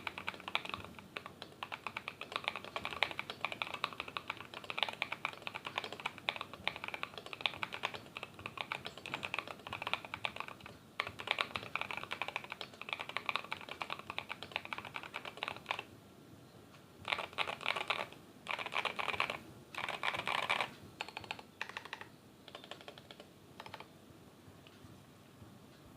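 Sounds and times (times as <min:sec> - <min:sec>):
mechanical keyboard typing: 0:00.0 - 0:15.9, 0:17.0 - 0:23.9.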